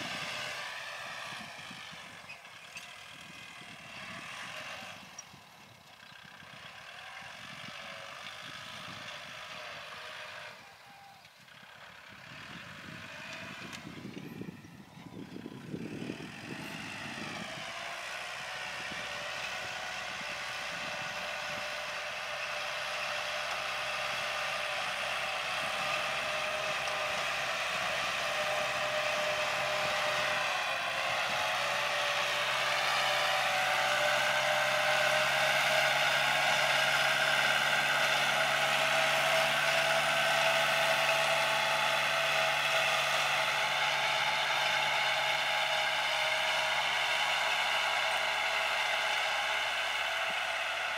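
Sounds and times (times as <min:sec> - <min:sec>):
tractor engine drone: 0:00.0 - 0:50.9.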